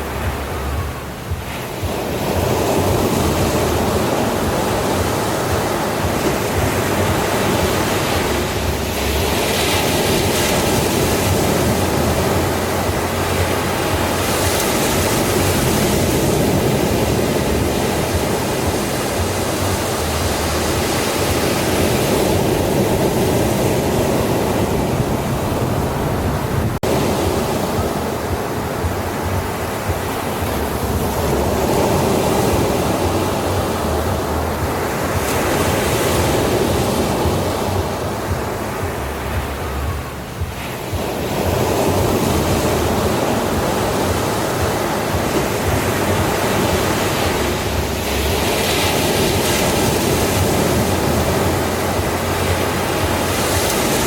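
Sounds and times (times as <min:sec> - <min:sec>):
waves washing onto beach: 0:00.0 - 0:54.0.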